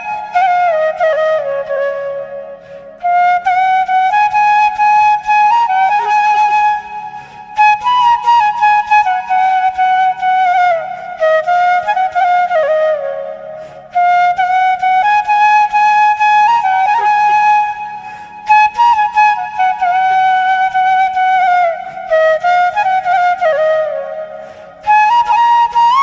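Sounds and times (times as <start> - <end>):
slow flute melody: 0.0 - 26.0.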